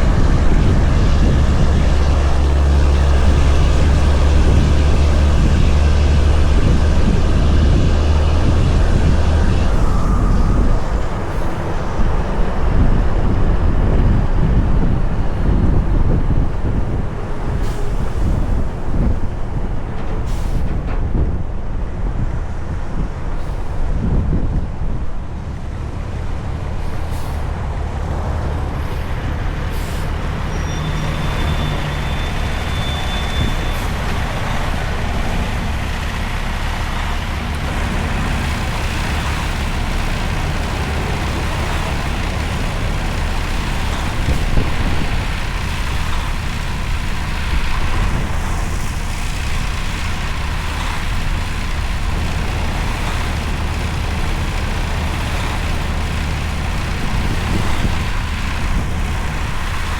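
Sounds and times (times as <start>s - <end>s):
road noise: 0.0s - 59.9s
truck diesel engine rumbling: 0.0s - 59.9s.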